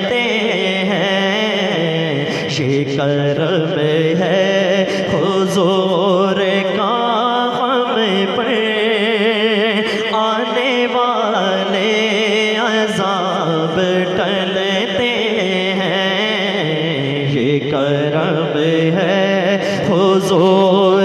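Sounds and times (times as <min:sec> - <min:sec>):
man singing with vibrato: 0:00.0 - 0:21.0.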